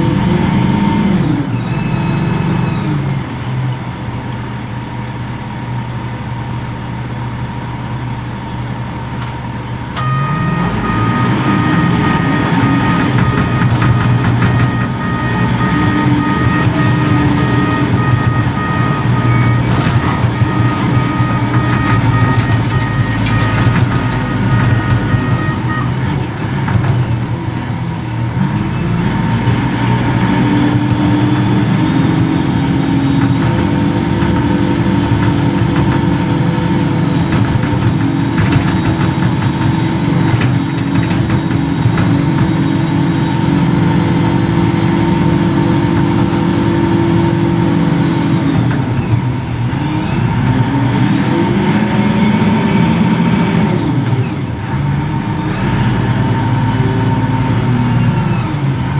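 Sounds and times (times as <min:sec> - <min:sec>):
heavy diesel engine revving: 0:00.0 - 0:03.9, 0:10.0 - 0:58.9.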